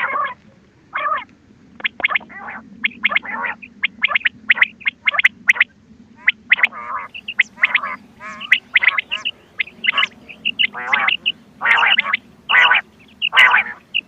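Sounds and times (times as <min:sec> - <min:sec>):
quail calls: 0:00.0 - 0:14.0
steady low hum: 0:00.0 - 0:14.0.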